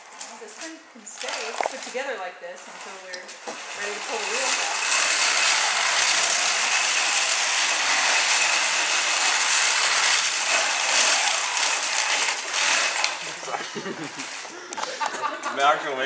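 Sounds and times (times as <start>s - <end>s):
electric motors whirring: 0.1s - 15.4s.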